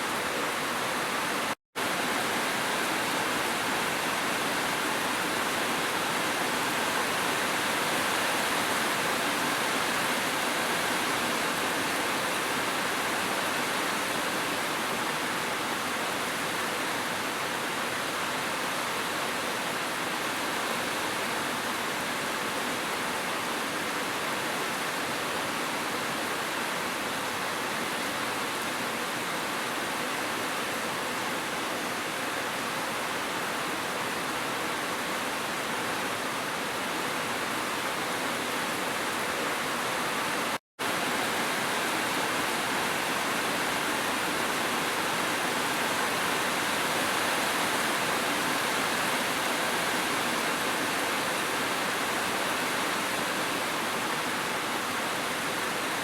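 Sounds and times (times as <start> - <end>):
gentle rain: 0.0 - 56.0.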